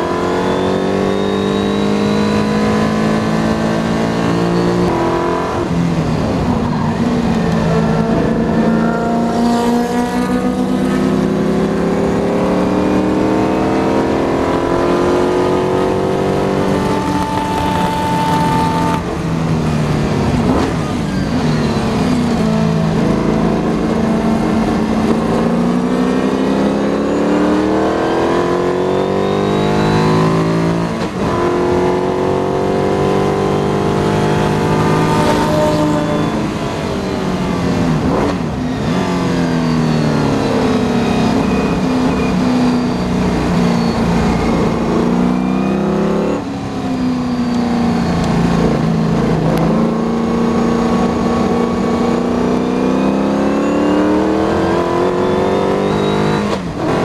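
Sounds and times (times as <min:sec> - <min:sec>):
racing car engine: 0:00.0 - 0:57.0.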